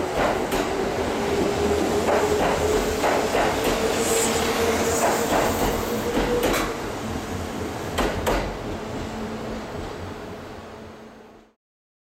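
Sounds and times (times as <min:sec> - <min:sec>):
electric train rumbling: 0:00.0 - 0:11.6.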